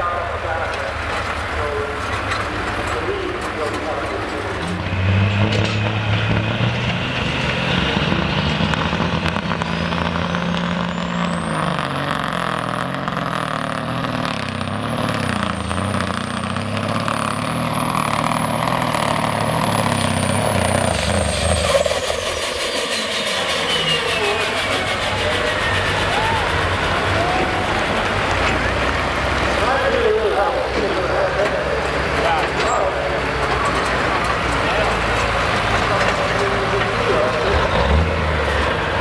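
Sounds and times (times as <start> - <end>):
diesel truck engine under load: 0.0 - 39.0.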